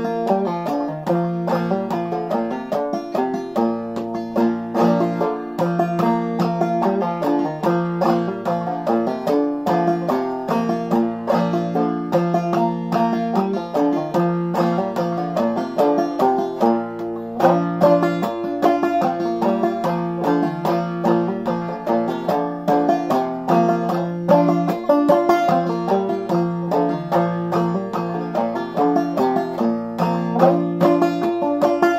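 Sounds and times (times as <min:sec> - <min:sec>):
banjo playing fiddle tune: 0:00.0 - 0:31.9.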